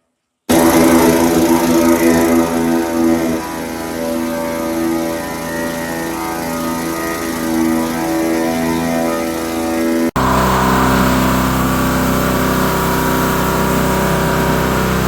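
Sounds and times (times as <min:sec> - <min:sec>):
pressure washer engine running: 0:00.5 - 0:15.0.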